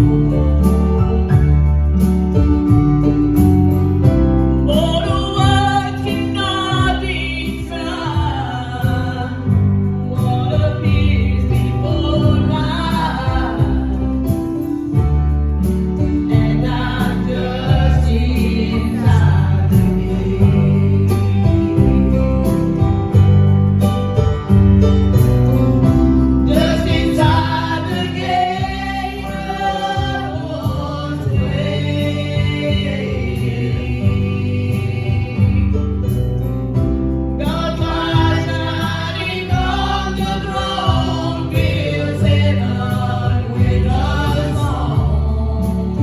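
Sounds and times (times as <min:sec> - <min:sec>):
gospel group singing: 0:00.0 - 0:23.3, 0:26.2 - 0:46.0
instrumental accompaniment with bass: 0:00.0 - 0:46.0.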